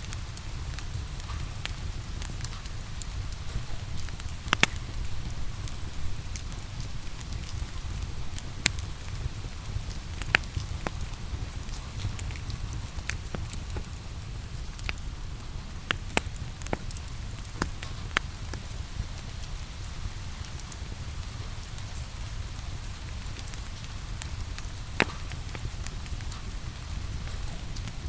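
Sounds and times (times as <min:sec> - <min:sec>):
steady rain hiss: 0:00.0 - 0:28.0
wood fire crackling and popping: 0:00.0 - 0:28.0.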